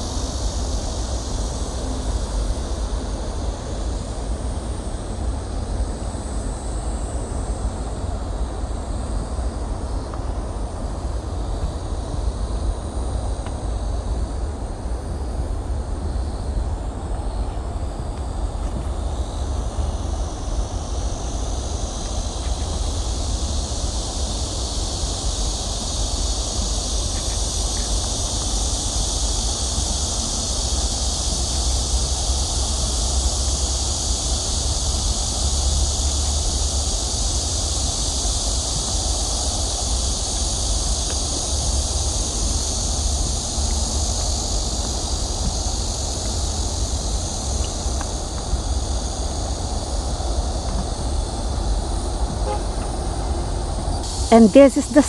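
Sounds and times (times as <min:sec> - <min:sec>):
insects chorus: 0:00.0 - 0:55.0.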